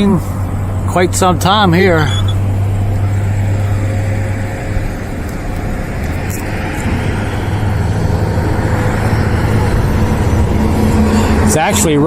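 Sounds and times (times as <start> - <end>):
rushing noise: 0.0 - 12.0
vehicle engine humming: 0.0 - 12.0.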